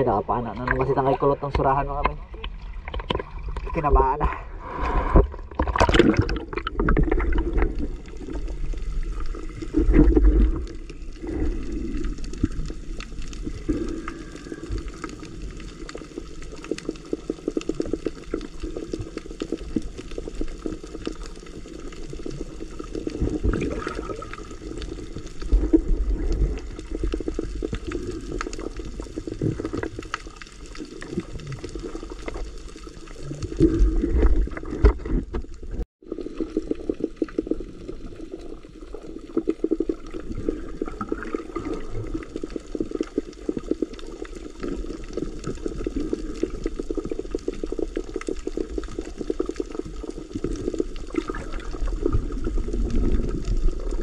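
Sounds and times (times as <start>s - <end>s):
low surges of water: 0.0s - 54.0s
muffled underwater wash: 0.0s - 54.0s
crackle of small clicks: 0.4s - 4.3s, 5.5s - 54.0s.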